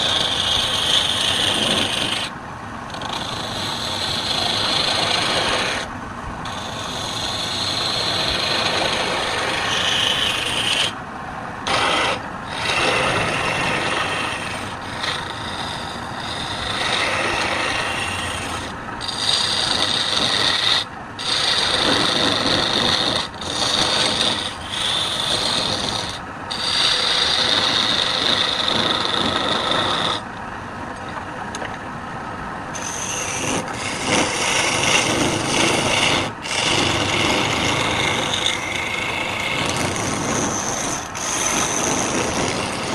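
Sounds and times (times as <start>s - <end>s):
wood turning on a lathe hiss: 0.0s - 2.3s, 2.9s - 11.0s, 11.6s - 30.3s, 32.7s - 42.9s.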